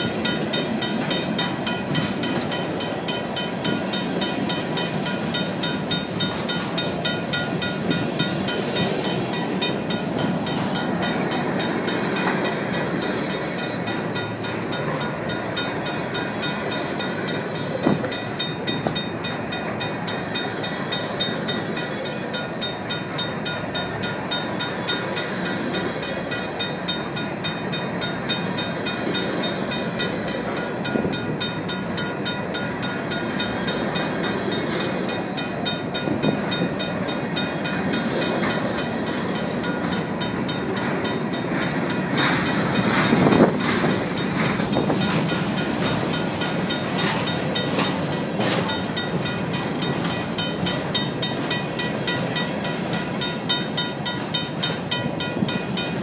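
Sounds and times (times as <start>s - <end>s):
crossing bell ringing: 0.0s - 56.0s
train wheels rumbling on rails: 0.0s - 56.0s.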